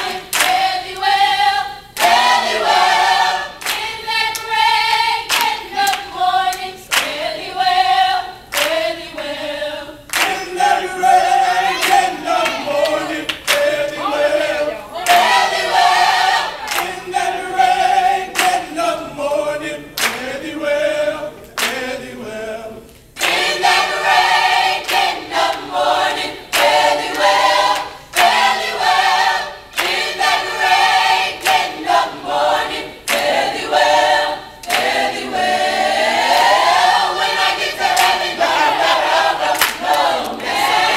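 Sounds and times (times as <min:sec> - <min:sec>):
mixed choir singing: 0:00.0 - 0:40.9
people clapping in rhythm: 0:00.0 - 0:40.9.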